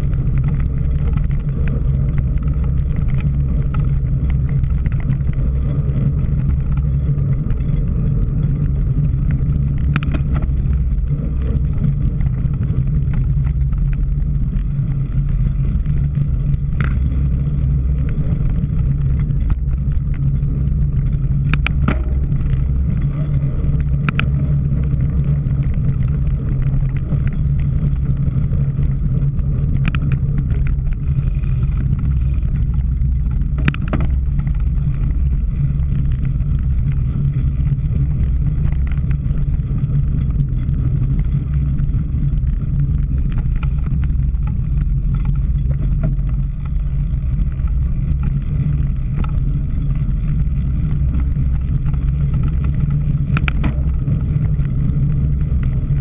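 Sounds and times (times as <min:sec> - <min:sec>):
bike clicks and rattles: 0:00.0 - 0:56.0
wind rumble on microphone: 0:00.0 - 0:56.0.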